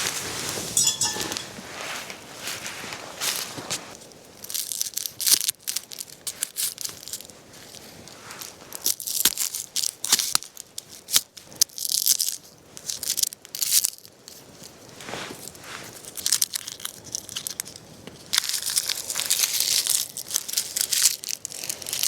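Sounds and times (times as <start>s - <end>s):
crinkling and tearing: 1.4s - 22.0s.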